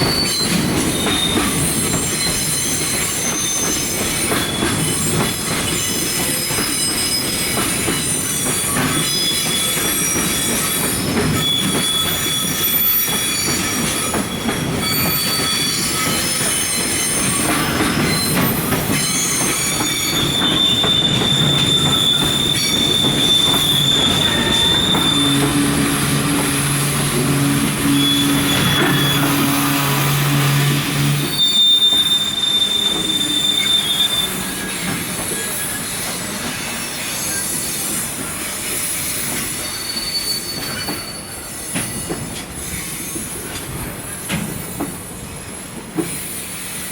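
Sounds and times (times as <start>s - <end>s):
train rumble: 0.0s - 39.8s
train brakes squealing: 0.0s - 46.9s.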